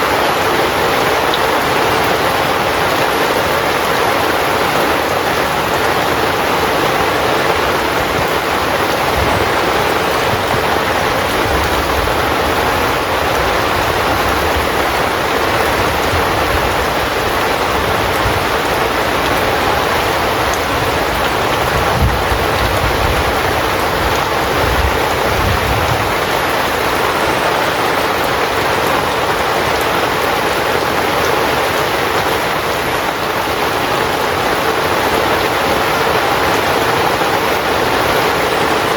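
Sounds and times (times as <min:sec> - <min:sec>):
heavy rain drumming on a tent: 0:00.0 - 0:38.9.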